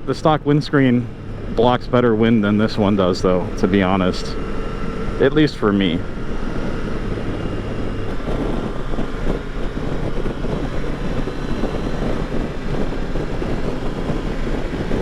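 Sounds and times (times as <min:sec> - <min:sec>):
motorcycle engine running: 0:00.0 - 0:15.0
wind rushing past microphone: 0:00.0 - 0:15.0.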